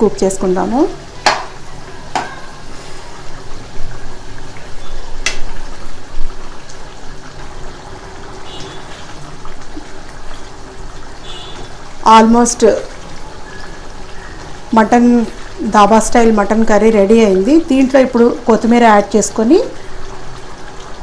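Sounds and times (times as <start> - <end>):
curry bubbling in a pan: 0.0 - 21.0.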